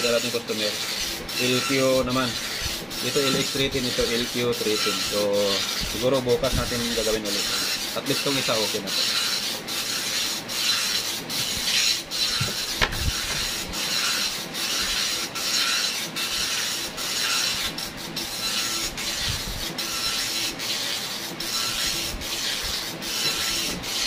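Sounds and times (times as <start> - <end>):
dot-matrix printer rasping buzz: 0.0 - 24.0.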